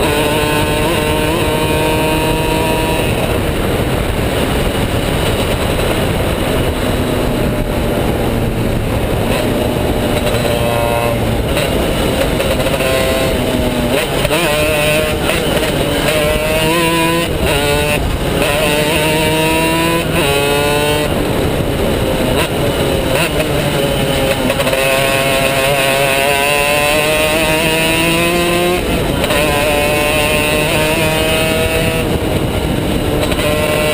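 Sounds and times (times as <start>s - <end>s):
two-stroke kart engine accelerating: 0.0s - 33.9s.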